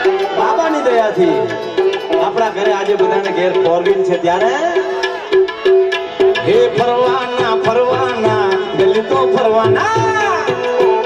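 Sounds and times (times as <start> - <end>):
harmonium melody: 0.0 - 11.0.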